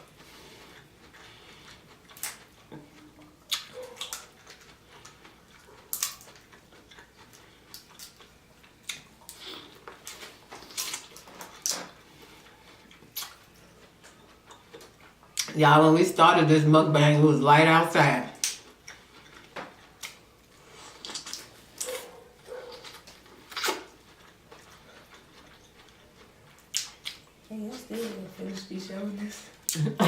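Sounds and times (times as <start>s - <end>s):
wet chewing and sucking: 0.0s - 15.5s, 18.4s - 27.4s.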